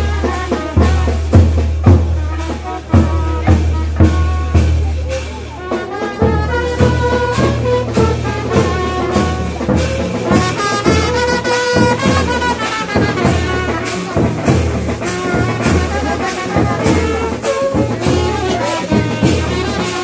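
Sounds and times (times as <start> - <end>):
drum strokes: 0.0 - 20.0.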